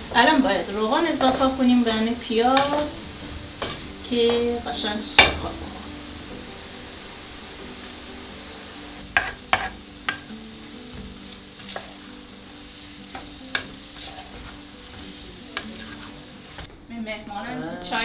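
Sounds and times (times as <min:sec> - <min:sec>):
onions sizzling in a pan: 0:00.0 - 0:16.7.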